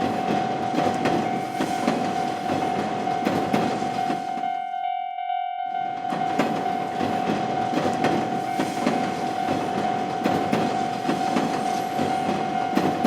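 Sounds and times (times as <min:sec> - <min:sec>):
train wheels clickety-clack: 0:00.0 - 0:04.7, 0:05.7 - 0:13.0
railroad crossing warning bell: 0:00.0 - 0:13.0.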